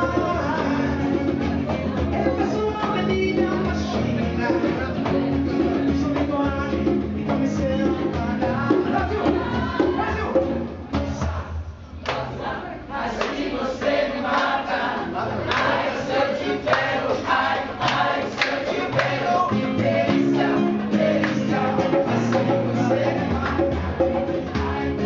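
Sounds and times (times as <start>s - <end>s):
strummed acoustic guitar: 0.0s - 11.4s, 15.5s - 25.0s
men singing together: 0.0s - 25.0s.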